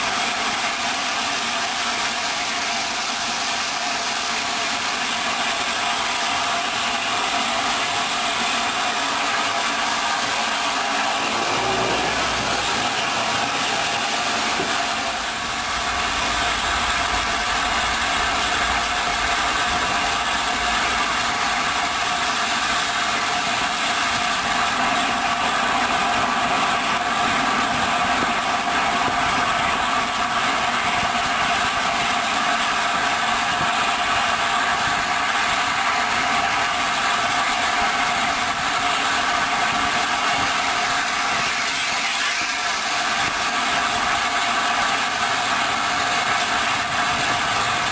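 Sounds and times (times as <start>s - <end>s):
steam train hiss and hum: 0.0s - 47.9s.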